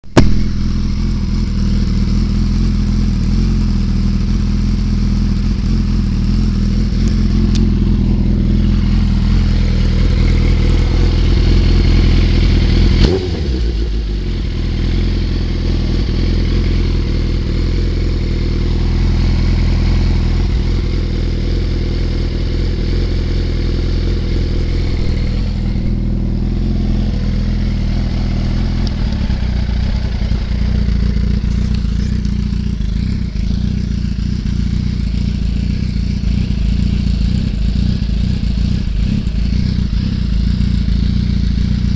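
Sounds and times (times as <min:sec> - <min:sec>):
exhaust crack: 0:00.0 - 0:41.9
motorcycle engine idling: 0:00.0 - 0:41.9.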